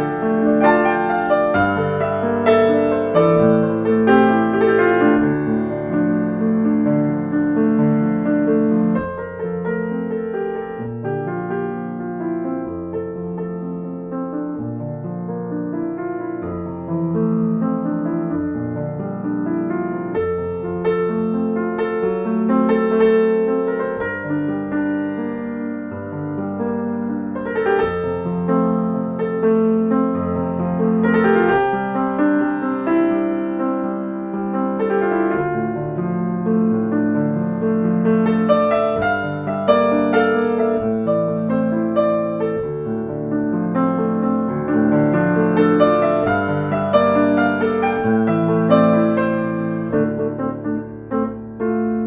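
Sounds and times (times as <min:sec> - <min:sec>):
gentle solo piano music: 0:00.0 - 0:52.0.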